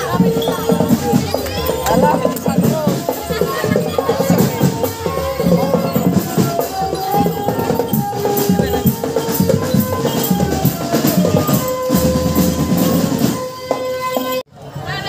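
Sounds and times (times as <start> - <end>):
held-note melody: 0.0 - 14.4
rattling percussion: 0.0 - 15.0
steady drums: 0.0 - 15.0.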